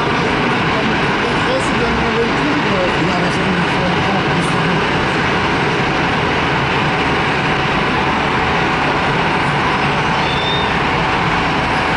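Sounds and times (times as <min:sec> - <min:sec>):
jet engines at takeoff thrust: 0:00.0 - 0:11.9.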